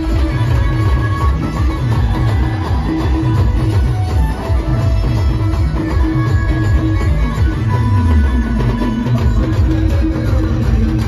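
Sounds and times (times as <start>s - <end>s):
loud amplified band music: 0.0s - 11.0s.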